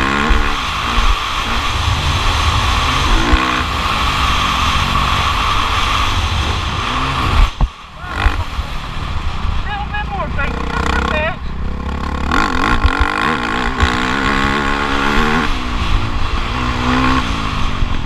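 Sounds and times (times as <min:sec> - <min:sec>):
motocross bike engine running hard: 0:00.0 - 0:18.0.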